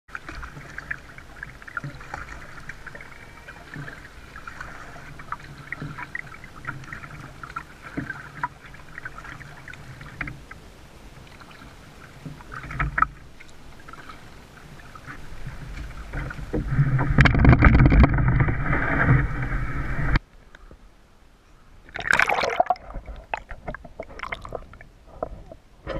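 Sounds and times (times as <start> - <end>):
kayak rumbling and scraping: 0.1 - 20.9, 21.6 - 25.9
water lapping against hull: 0.1 - 25.9.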